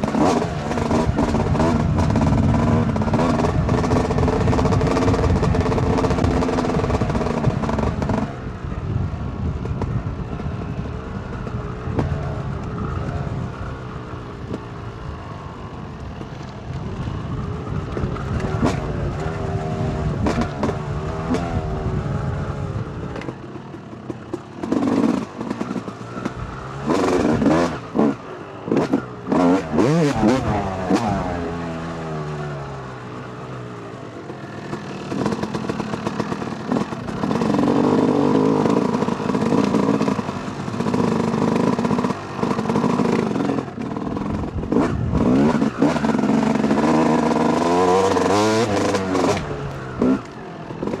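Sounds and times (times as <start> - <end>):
dirt bike engine revving: 0.0 - 8.5, 17.3 - 51.0.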